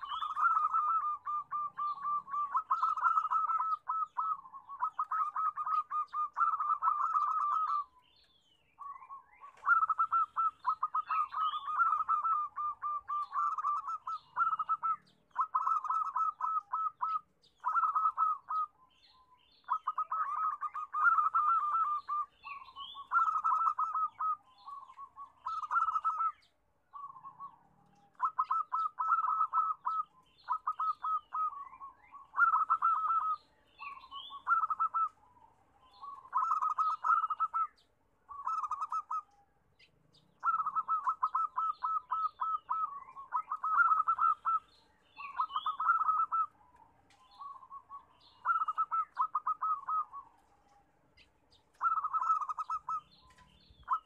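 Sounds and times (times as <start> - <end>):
dove cooing: 0.0 - 8.0, 8.8 - 54.0
faint high chirps: 0.0 - 54.0.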